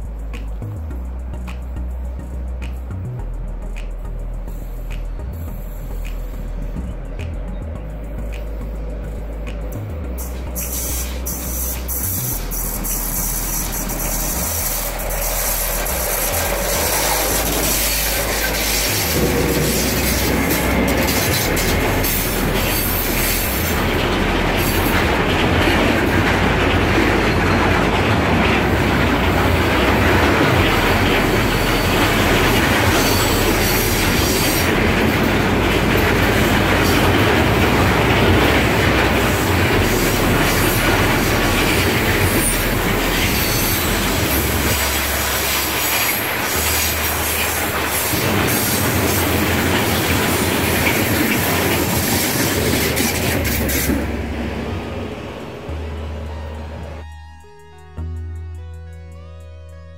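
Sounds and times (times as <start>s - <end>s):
freight train rolling past: 0.0s - 57.1s.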